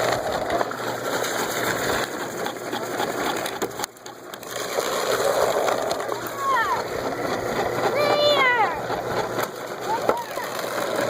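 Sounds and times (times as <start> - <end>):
apples crunching in a grinder: 0.0 - 11.0.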